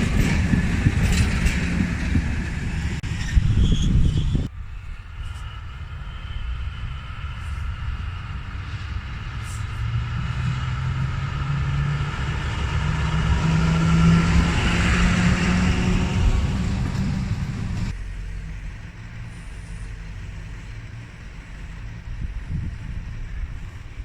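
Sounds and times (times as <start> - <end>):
diesel train engine running: 0.0 - 24.0.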